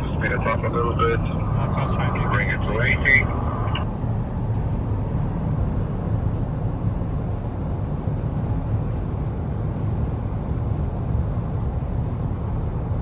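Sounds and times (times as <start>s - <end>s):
tyre and engine rumble: 0.0s - 13.0s.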